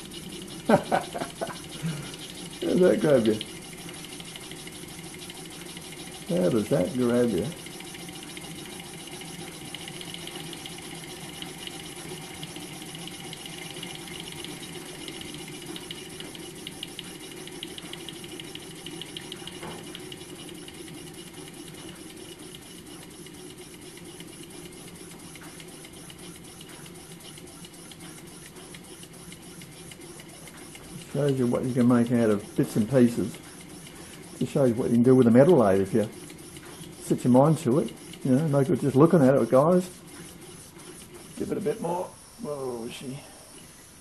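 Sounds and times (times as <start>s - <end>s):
model steam engine clattering: 0.0s - 41.8s.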